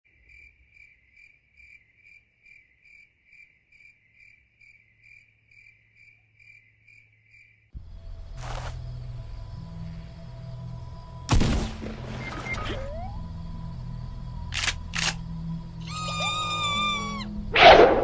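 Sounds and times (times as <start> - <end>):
crickets chirping: 0.1 - 18.0.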